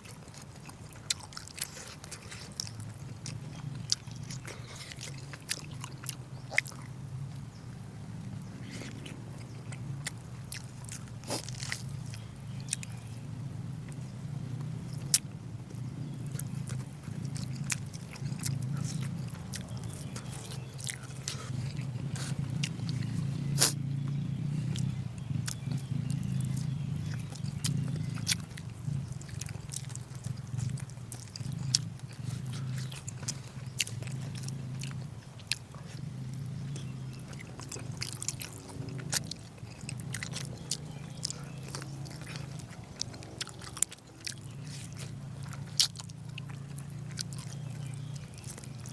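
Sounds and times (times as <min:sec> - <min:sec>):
person chewing food: 0:00.0 - 0:07.4, 0:08.2 - 0:13.2, 0:13.8 - 0:48.9
low hum: 0:02.7 - 0:48.7.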